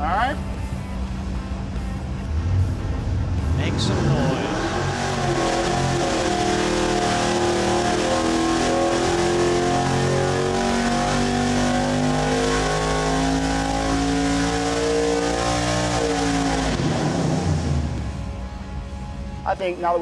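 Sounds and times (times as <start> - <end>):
engine running at high revs: 0.0 - 19.6.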